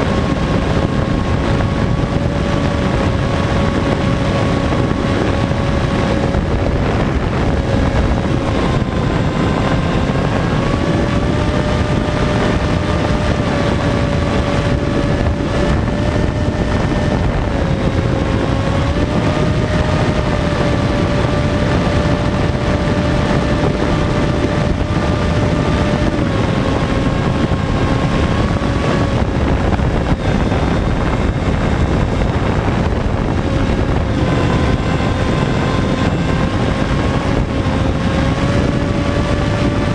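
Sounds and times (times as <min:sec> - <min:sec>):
electric motor and propeller humming: 0:00.0 - 0:39.9
wind rush on microphone: 0:00.0 - 0:39.9.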